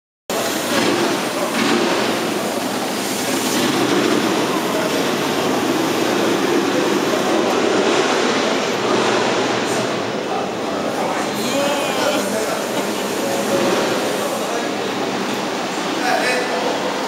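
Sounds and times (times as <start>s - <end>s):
loud background din: 0.3s - 17.0s
indistinct voices: 2.5s - 16.7s.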